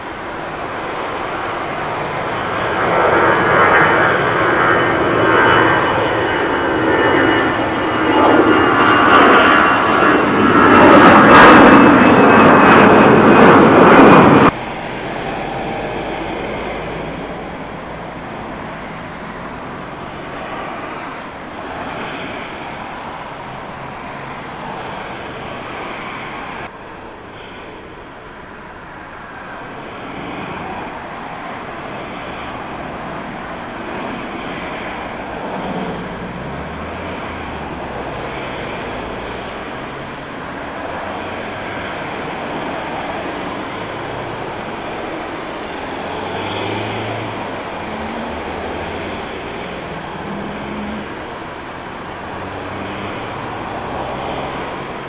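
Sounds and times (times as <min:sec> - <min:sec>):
jet engine whine: 0:00.0 - 0:55.0
steady jet engine noise: 0:00.0 - 0:55.0.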